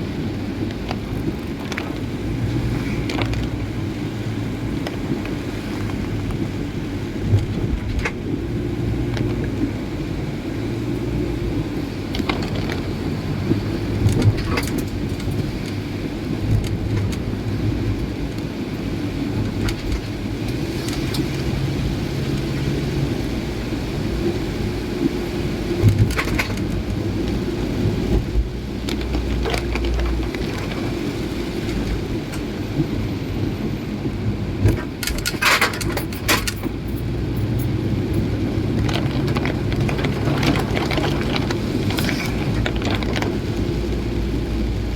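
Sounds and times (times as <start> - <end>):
car engine and road rumble: 0.0 - 44.9
rain hissing: 0.0 - 44.9.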